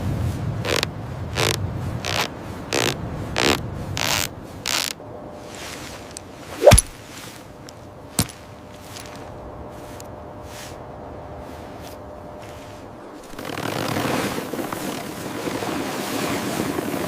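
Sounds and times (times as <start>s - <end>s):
footsteps crunching through snow: 2.1s - 17.0s.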